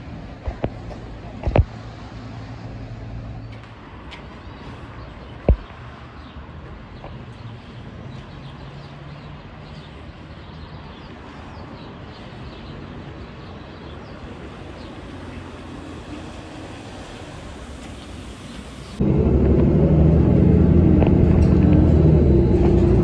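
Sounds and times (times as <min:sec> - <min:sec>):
traffic on wet street: 0:00.0 - 0:23.0.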